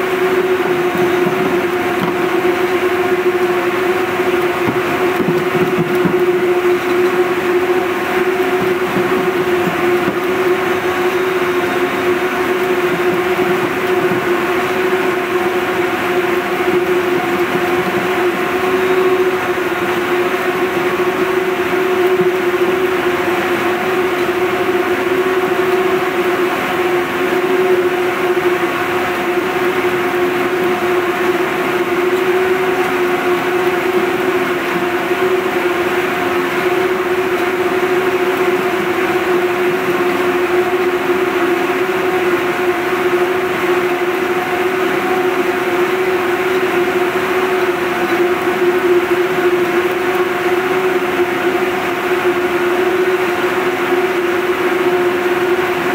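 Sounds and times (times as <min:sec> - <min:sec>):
spinning machines whirring drone: 0:00.0 - 0:55.9
steady machine hum: 0:00.0 - 0:55.9.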